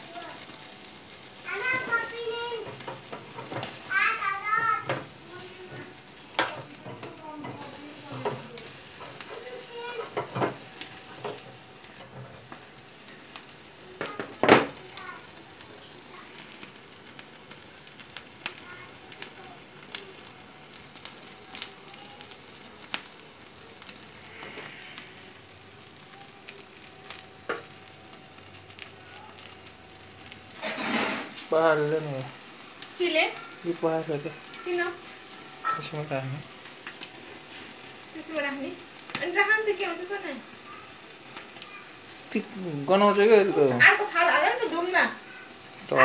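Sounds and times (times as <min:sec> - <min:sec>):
sharp pops and crackles: 0:00.0 - 0:33.5, 0:34.2 - 0:45.9
chicken sizzling over flame: 0:00.0 - 0:46.0.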